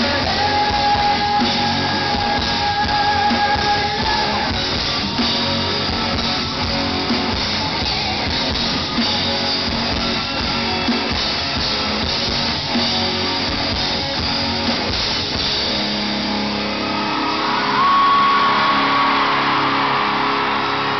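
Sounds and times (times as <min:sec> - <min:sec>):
drum kit: 0:00.0 - 0:20.9
electric guitars: 0:00.0 - 0:20.9.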